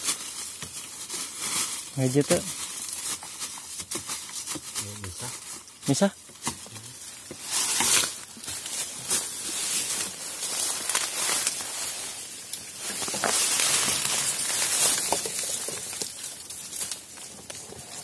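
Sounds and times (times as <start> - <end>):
footsteps through dry leaves: 0.0 - 6.1, 6.8 - 18.0
leaves and stems rustling: 0.0 - 18.0.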